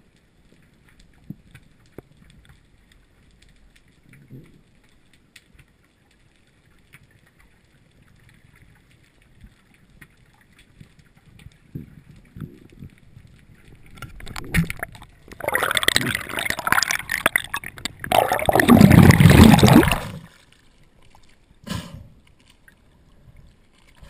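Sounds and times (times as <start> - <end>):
soft whooshes of water: 2.7 - 24.0.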